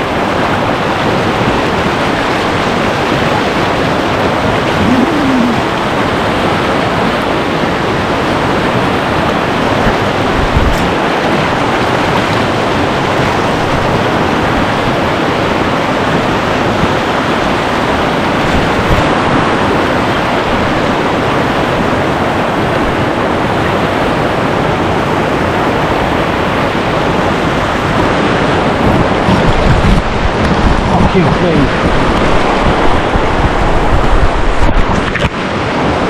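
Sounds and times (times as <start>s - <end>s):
whitewater rapid rushing: 0.0s - 36.0s.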